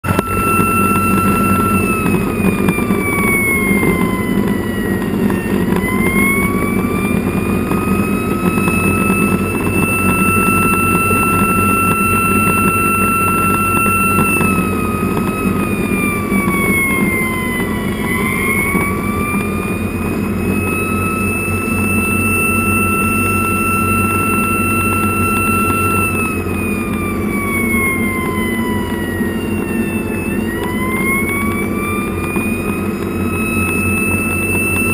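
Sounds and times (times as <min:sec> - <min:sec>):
fire engine siren wailing: 0:00.0 - 0:34.9
truck engine and road noise: 0:00.0 - 0:34.9.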